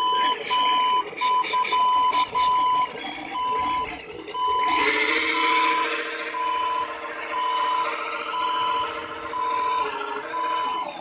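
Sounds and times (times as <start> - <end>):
reversing beeper beeps: 0.0 - 11.0
toy truck electric motor whine: 1.2 - 11.0.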